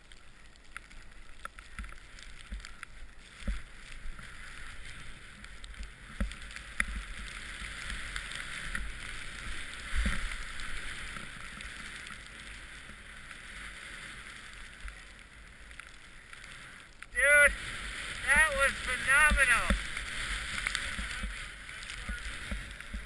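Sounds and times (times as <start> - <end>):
sliding through powder snow: 3.0 - 23.0.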